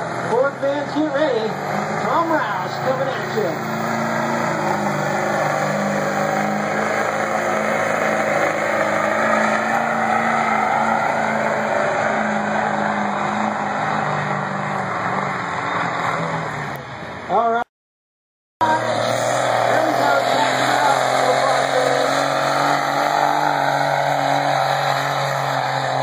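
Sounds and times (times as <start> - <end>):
truck engine at full throttle: 0.0 - 17.6, 18.6 - 26.0.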